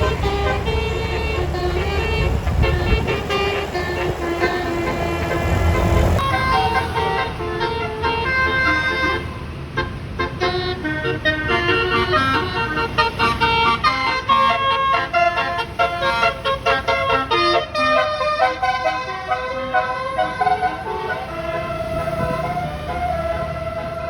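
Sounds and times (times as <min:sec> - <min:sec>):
multi-tone bus horn melody: 0:00.0 - 0:24.0.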